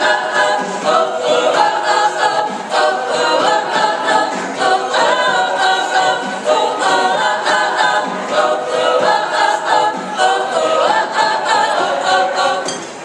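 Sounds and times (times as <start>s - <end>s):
vocal group singing a cappella: 0.0s - 13.0s.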